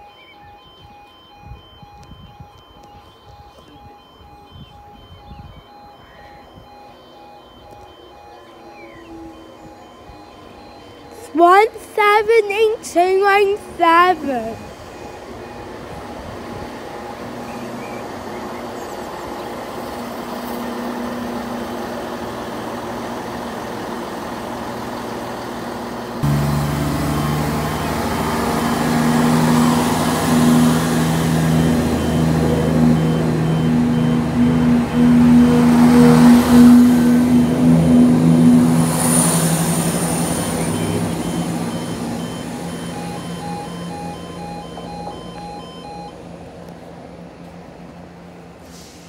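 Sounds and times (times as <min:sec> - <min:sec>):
diesel train engines: 0:00.0 - 0:49.0.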